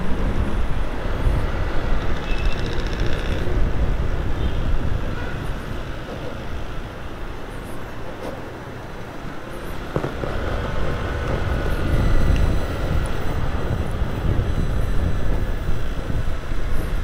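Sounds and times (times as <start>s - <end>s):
wind on microphone: 0.0s - 6.7s, 9.7s - 17.0s
vehicle rumble: 0.0s - 17.0s.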